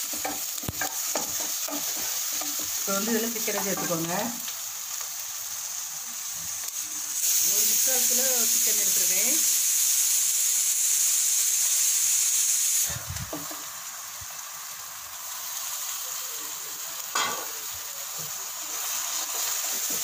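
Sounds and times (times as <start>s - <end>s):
oil sizzling in pan: 0.0s - 20.0s.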